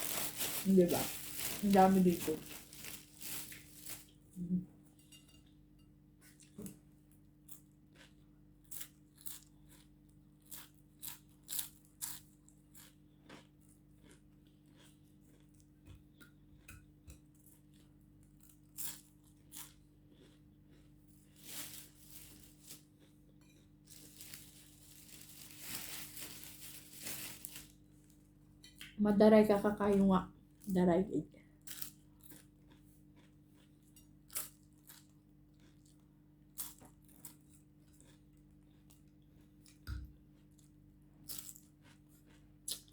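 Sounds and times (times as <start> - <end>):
crunching flatbread: 0.0 - 4.2, 7.4 - 16.6, 17.2 - 28.4, 31.6 - 42.9.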